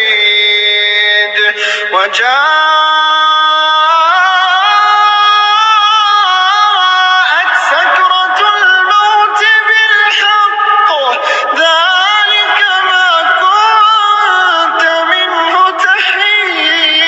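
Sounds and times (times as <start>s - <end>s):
music with singing voice: 0.0s - 17.0s.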